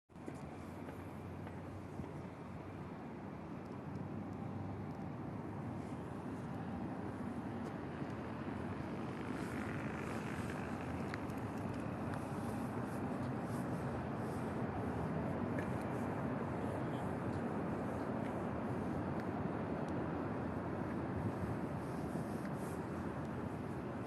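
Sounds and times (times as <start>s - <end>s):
low outdoor rumble: 0.2s - 24.0s.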